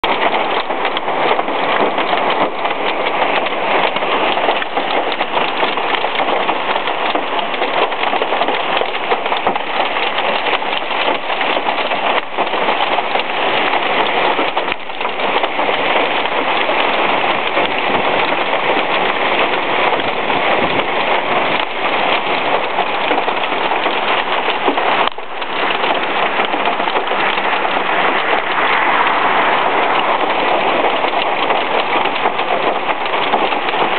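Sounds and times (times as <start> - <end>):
hail pelting down: 0.0 - 33.9
torrential rain: 0.0 - 33.9.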